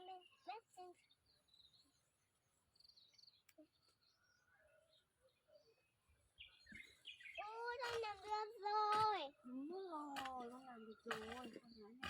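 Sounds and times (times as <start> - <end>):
faint high bird chirps: 0.0 - 12.0.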